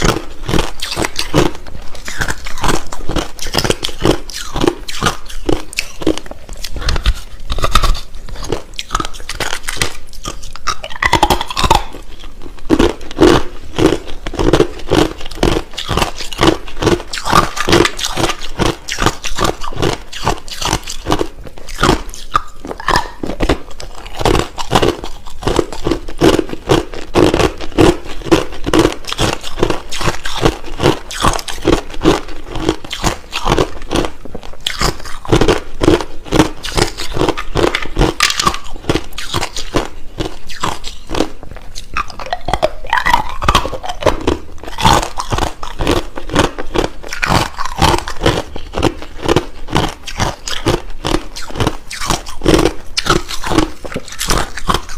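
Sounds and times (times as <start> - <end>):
person chewing crushed ice: 0.0 - 54.9.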